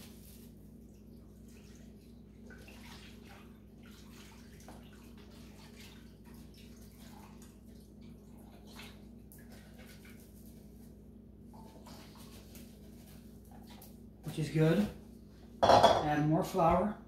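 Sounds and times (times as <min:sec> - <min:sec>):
milk pouring and splashing: 0:00.0 - 0:14.1.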